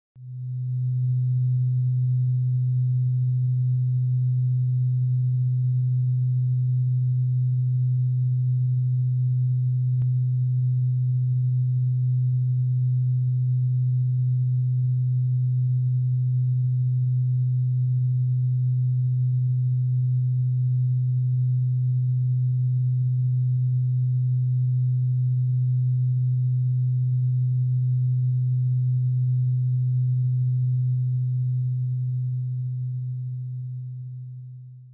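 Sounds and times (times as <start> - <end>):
steady low electronic tone: 0.2 - 34.9.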